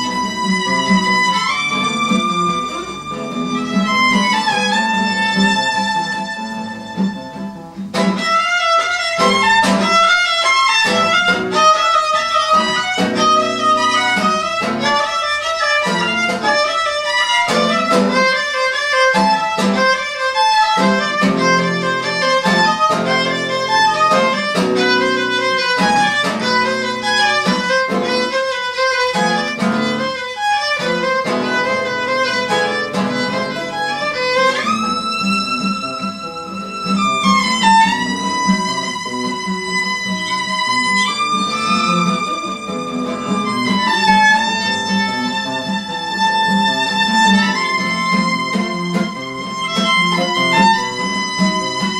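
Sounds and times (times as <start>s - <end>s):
rhythmic lower accompaniment: 0.0s - 51.9s
violin melody: 0.0s - 51.9s.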